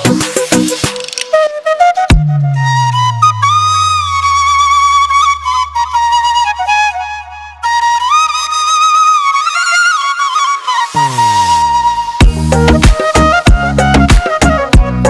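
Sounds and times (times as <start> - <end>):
flute-like ringtone melody: 0.0 - 15.0.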